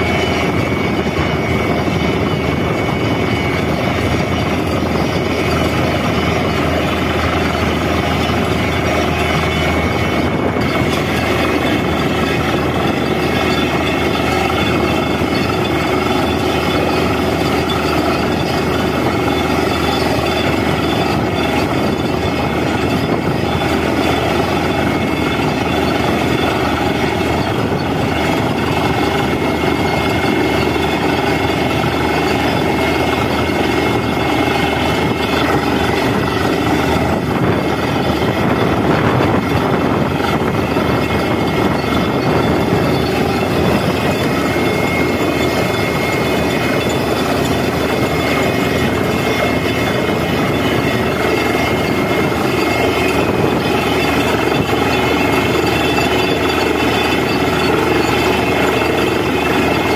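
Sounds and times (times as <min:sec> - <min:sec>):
drilling rig running: 0:00.0 - 0:59.9.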